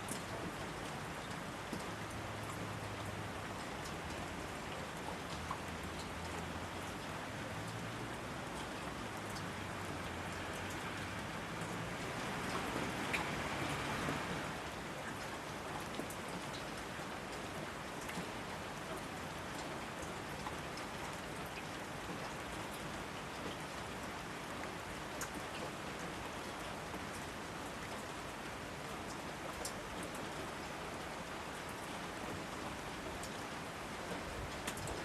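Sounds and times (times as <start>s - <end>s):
rain falling on foliage: 0.0s - 35.0s.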